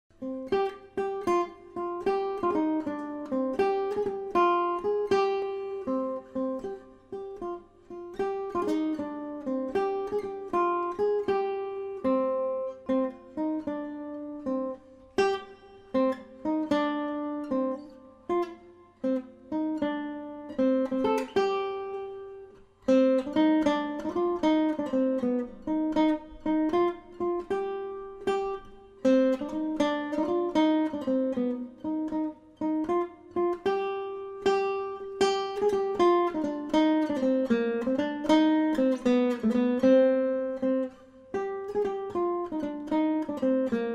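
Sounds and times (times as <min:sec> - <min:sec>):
acoustic guitar plucked notes: 0:00.1 - 0:43.9.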